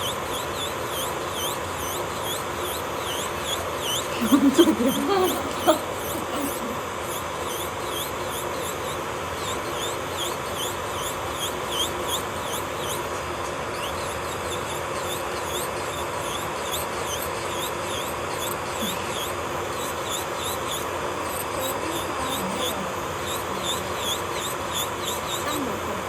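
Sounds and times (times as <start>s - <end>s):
high squeaky chirps: 0.0s - 26.0s
whirring hiss: 0.0s - 26.0s.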